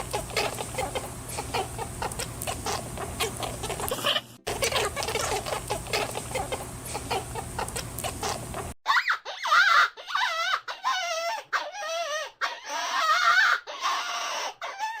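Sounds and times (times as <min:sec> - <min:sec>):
animal whimpering cries: 0:00.0 - 0:15.0.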